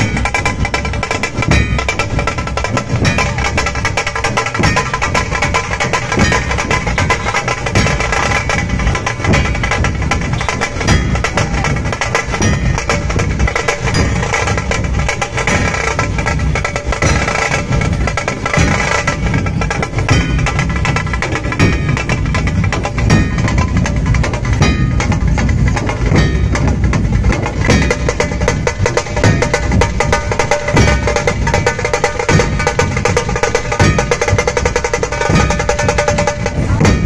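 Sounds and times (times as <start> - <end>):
loud rapid drumming: 0.0 - 37.0.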